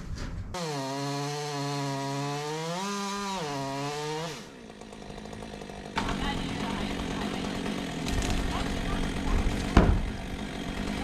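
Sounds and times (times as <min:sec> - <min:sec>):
chainsaw cutting wood: 0:00.6 - 0:11.0.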